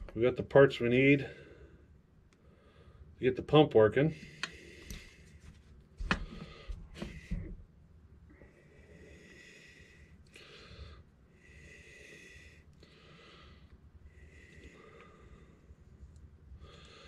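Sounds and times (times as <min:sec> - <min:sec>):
soft hissing breaths: 0:00.5 - 0:03.2, 0:04.0 - 0:17.0.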